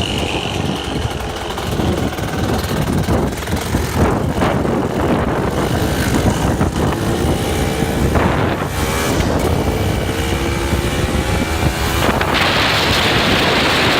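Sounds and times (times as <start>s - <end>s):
dirt bike engine running: 0.0s - 13.9s
wind buffeting microphone: 0.0s - 13.9s.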